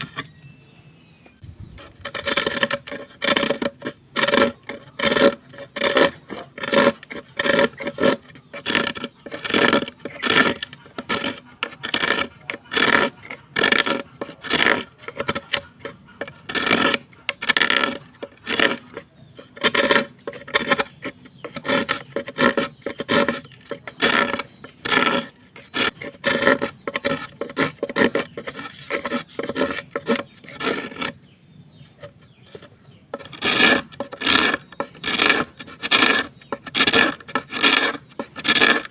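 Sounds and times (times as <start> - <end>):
hand tool scraping bamboo: 0.0 - 0.5, 1.6 - 38.9.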